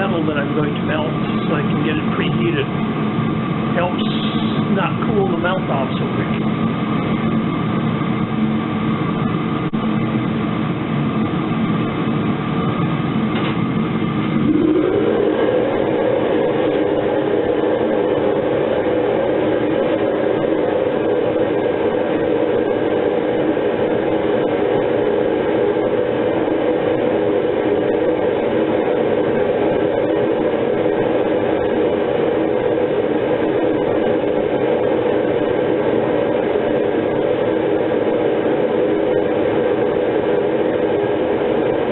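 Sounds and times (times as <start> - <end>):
furnace burner roaring: 0.0 - 41.9.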